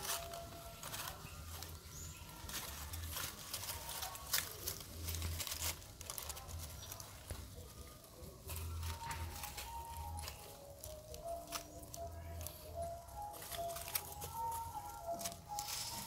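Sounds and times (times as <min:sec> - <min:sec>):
dry leaves rustling and crackling: 0:00.0 - 0:16.0.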